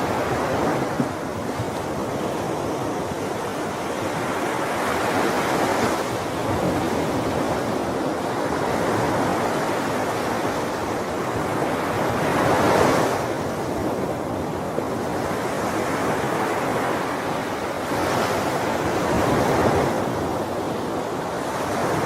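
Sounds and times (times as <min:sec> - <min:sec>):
sea waves washing ashore: 0:00.0 - 0:22.0.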